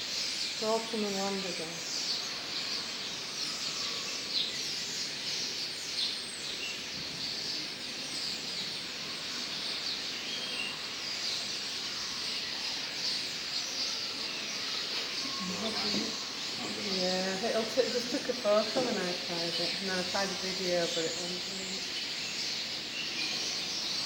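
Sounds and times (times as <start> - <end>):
starlings chirping: 0.0 - 24.0
steady background hiss: 0.0 - 24.0.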